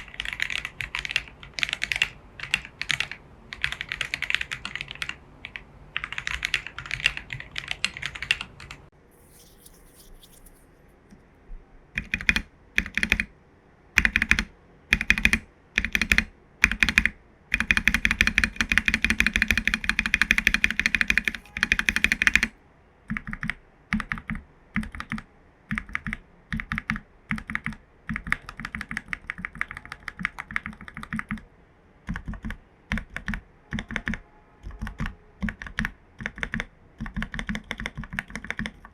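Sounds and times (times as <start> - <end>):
mechanical keyboard typing: 0.0 - 8.8, 12.0 - 13.3, 14.0 - 22.5, 23.1 - 31.5, 32.1 - 38.9.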